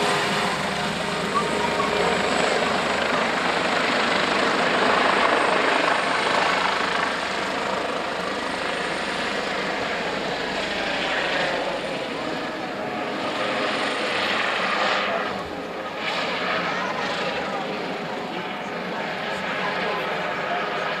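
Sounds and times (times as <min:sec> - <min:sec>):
helicopter flying past: 0:00.0 - 0:21.0.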